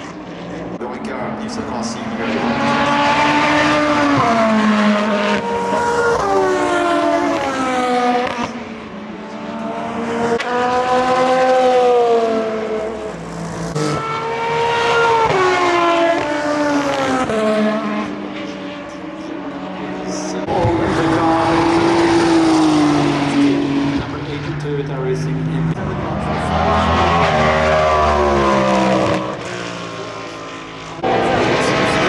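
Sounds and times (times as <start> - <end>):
race cars accelerating past: 0.0 - 32.0.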